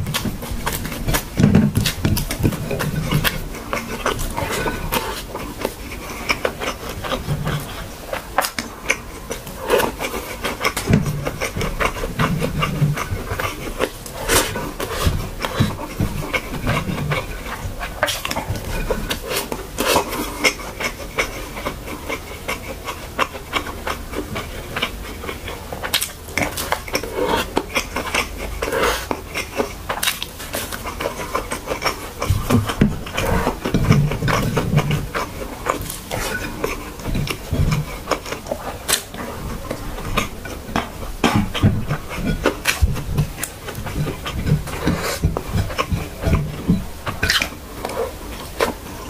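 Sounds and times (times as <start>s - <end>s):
close chewing and lip-smacking: 0.0s - 49.0s
swallowing: 0.0s - 49.0s.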